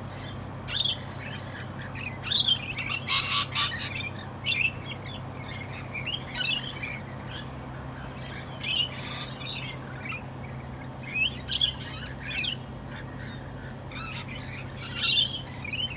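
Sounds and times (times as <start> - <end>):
parrots squawking: 0.2 - 15.9.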